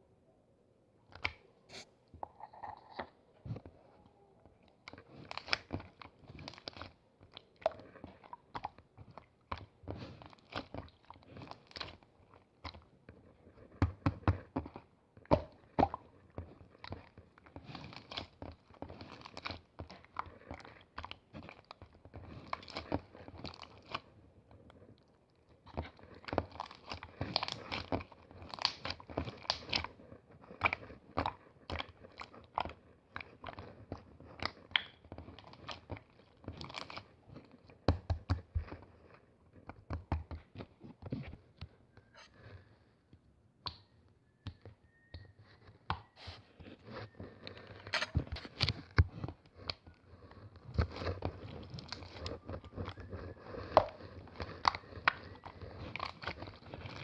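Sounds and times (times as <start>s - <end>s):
hands squishing slime: 1.1s - 57.0s.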